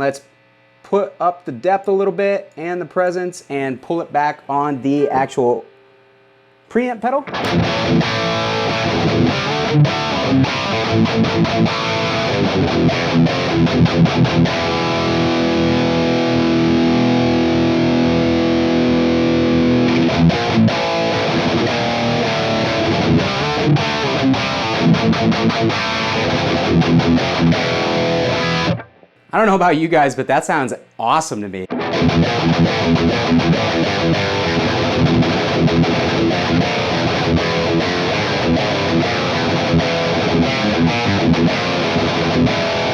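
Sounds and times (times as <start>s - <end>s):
distorted electric guitar chugs: 0.0s - 42.9s.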